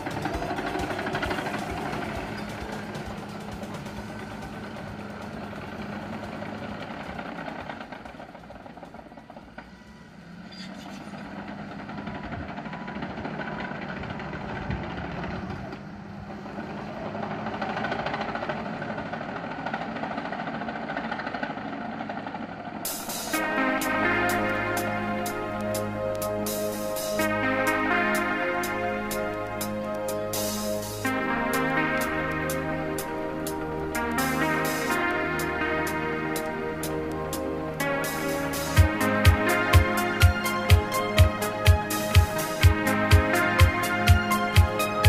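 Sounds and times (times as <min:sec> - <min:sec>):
bulldozer diesel engine droning: 0:00.0 - 0:45.0.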